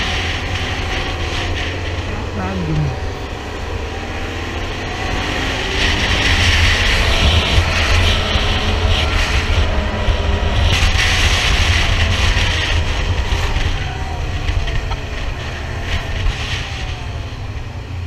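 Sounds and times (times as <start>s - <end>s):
quad engine running: 0.0s - 18.0s
wind buffeting microphone: 0.0s - 18.0s.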